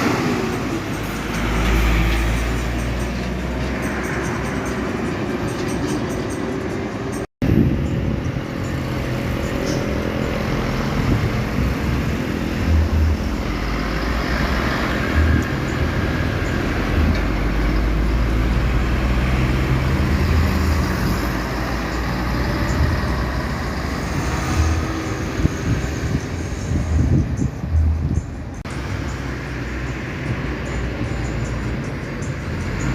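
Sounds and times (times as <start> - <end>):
diesel truck engine running: 0.0 - 32.9
road and traffic noise: 0.0 - 32.9.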